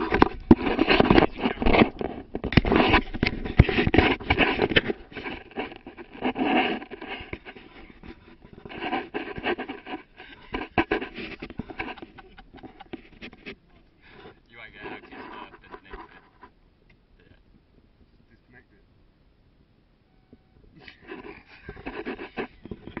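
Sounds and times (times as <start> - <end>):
hands rummaging scraping and rustling: 0.0 - 16.5, 20.8 - 23.0.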